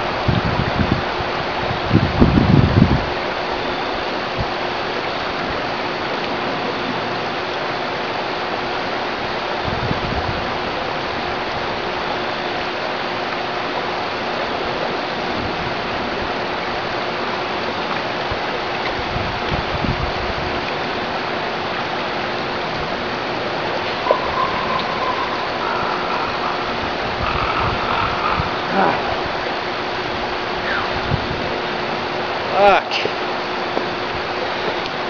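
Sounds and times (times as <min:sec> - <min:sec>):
river water flowing: 0:03.0 - 0:09.7, 0:10.4 - 0:35.0.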